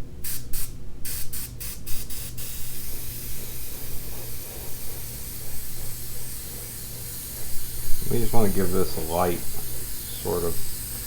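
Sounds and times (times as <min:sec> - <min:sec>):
airbrush spraying paint: 0:00.2 - 0:11.0.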